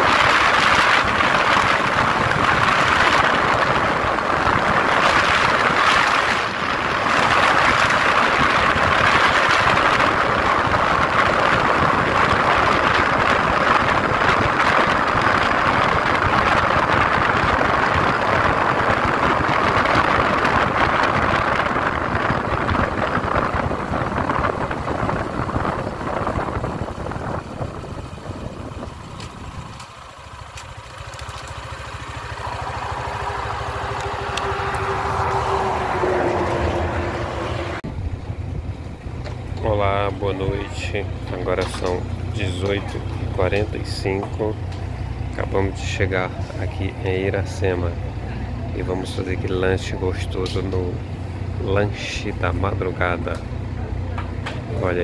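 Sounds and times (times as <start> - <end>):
wind rushing over microphone: 0.0 - 30.4, 31.6 - 55.0
motorcycle engine: 0.0 - 48.8
truck approaching: 0.0 - 55.0.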